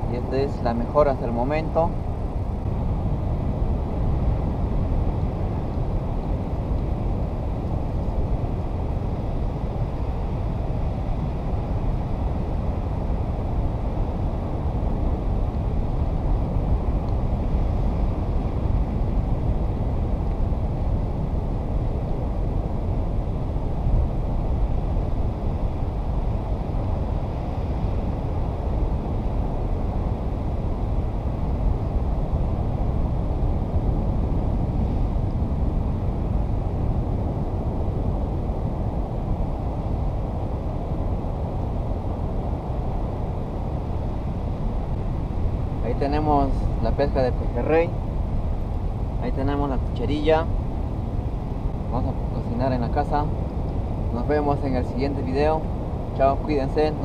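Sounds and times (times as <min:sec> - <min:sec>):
wind blowing across microphone: 0:00.0 - 0:57.0.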